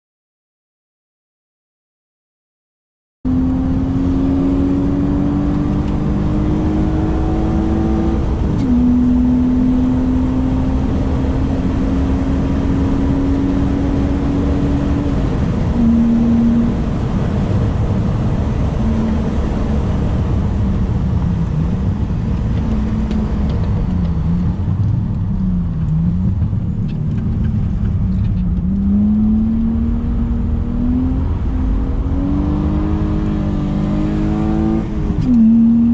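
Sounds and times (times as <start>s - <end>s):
car engine revving under load: 3.3s - 35.9s.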